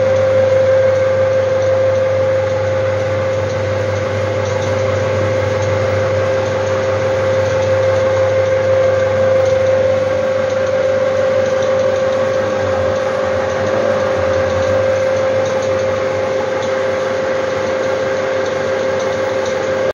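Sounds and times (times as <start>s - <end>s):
film projector drone: 0.0s - 19.9s
projector whine: 0.0s - 19.9s.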